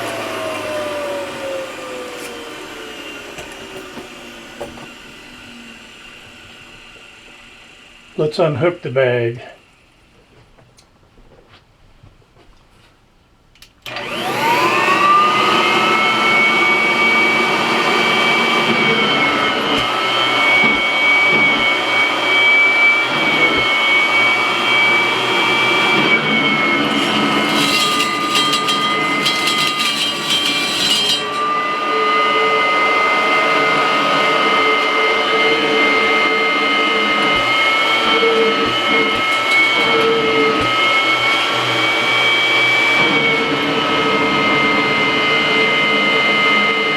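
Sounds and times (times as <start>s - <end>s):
vacuum cleaner motor whining: 0.0s - 10.4s, 13.8s - 46.9s.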